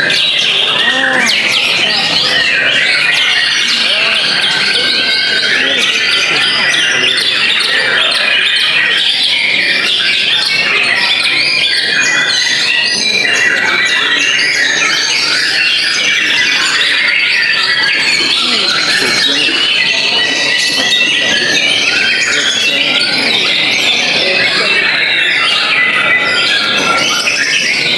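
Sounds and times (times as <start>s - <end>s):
many birds singing: 0.0s - 27.9s.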